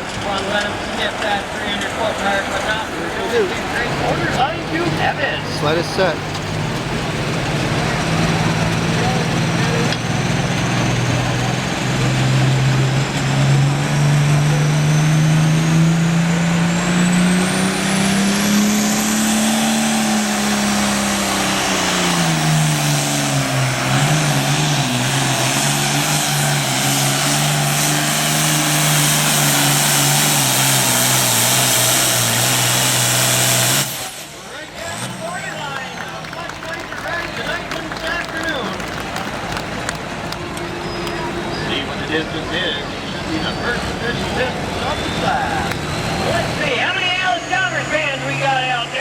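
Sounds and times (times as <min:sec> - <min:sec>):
tractor diesel engine under load: 0:00.0 - 0:49.0.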